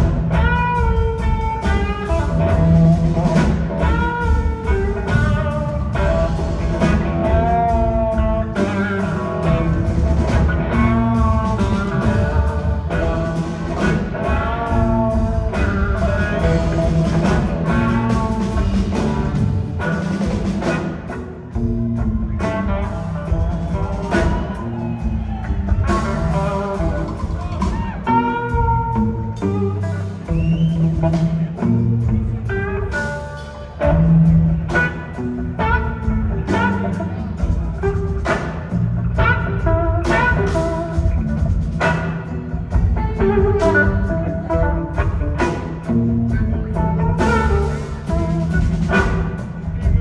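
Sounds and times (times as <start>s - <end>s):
blues-rock band playing: 0.0s - 50.0s
electric guitar lead: 0.0s - 50.0s.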